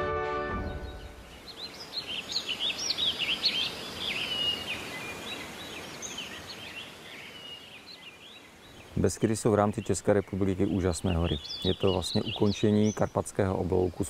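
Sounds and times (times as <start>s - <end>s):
small birds singing and chirping: 0.6s - 14.0s
soft outdoor hiss: 0.6s - 14.0s.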